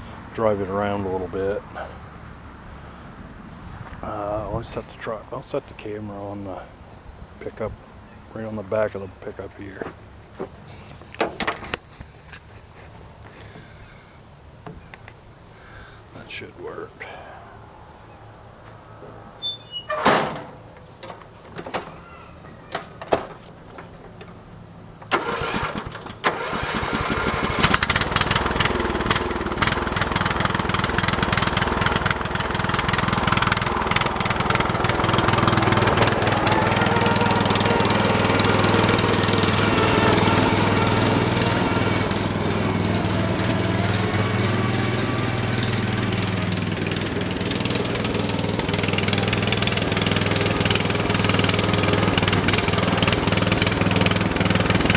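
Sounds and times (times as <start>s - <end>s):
lawn tractor engine starting and running: 0.0s - 54.9s.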